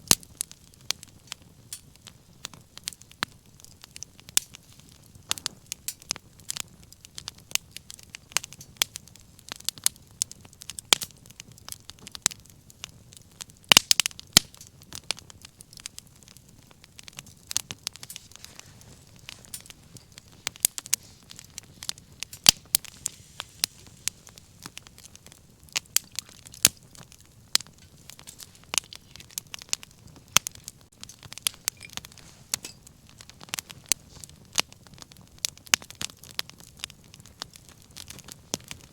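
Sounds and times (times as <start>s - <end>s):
low rush of flame: 0.0s - 12.2s, 12.8s - 38.9s
wood fire popping and snapping: 0.0s - 38.9s.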